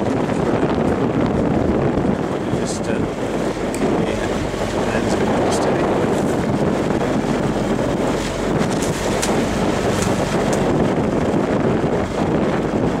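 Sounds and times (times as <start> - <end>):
boat engine drone: 0.0 - 13.0
water wash: 0.0 - 13.0
wind buffeting microphone: 0.0 - 13.0.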